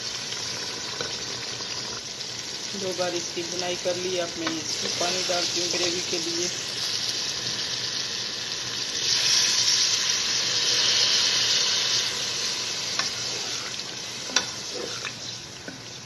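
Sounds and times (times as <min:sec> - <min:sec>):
meat sizzling in oil: 0:00.0 - 0:16.0
water hissing in hot pan: 0:00.0 - 0:16.0.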